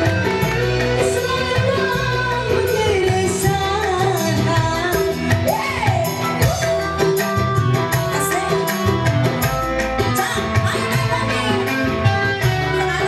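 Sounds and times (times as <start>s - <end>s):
bass: 0.0s - 13.0s
keyboard: 0.0s - 13.0s
steady drum beat: 0.0s - 13.0s.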